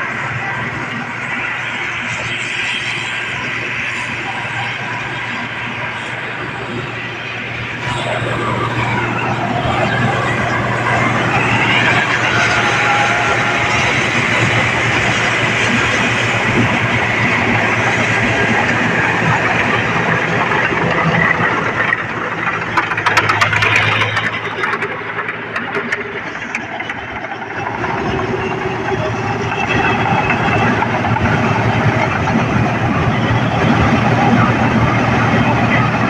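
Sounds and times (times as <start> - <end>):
combine harvester engine hum: 0.0 - 36.0.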